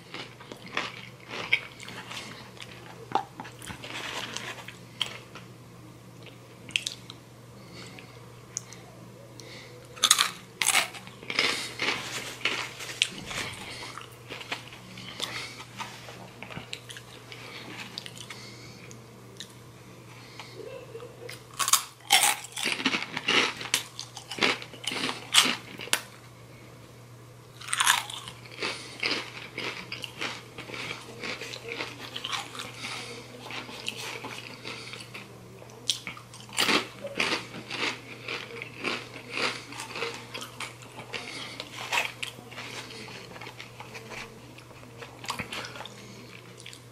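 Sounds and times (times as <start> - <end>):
crunchy chips being chewed: 0.0 - 5.5, 6.2 - 7.2, 9.4 - 19.6, 21.3 - 26.2, 27.6 - 46.9
steady low hum: 0.0 - 46.9.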